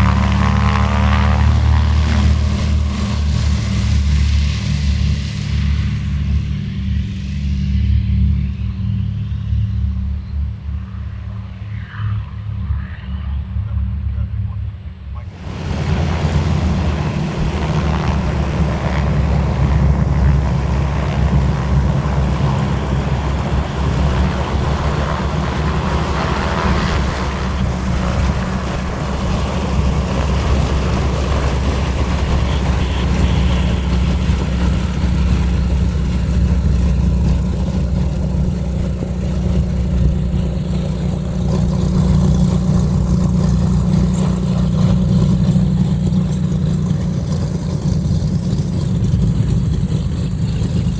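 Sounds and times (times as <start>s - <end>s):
radial aircraft engines droning: 0.0s - 50.9s.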